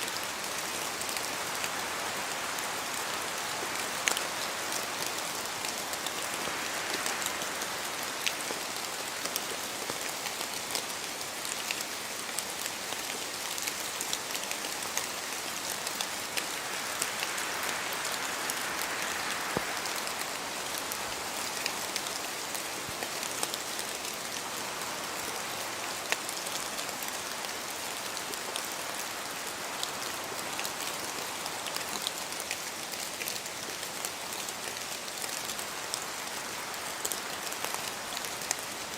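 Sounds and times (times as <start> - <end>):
rain falling through trees: 0.0 - 38.9
wind gusts through trees: 0.0 - 38.9.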